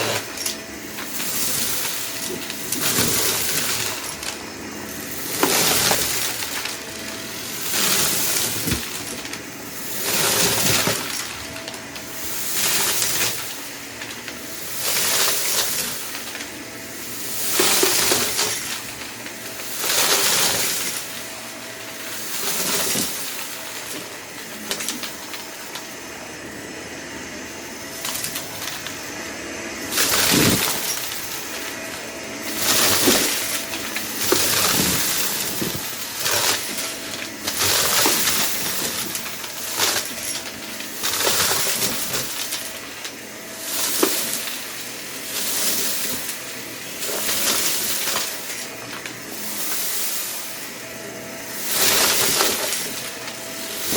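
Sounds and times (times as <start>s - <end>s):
vacuum cleaner sucking debris: 0.0s - 53.9s.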